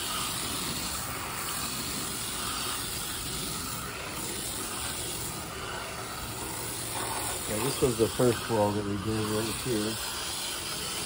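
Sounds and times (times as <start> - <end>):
hose water spraying: 0.0 - 11.0.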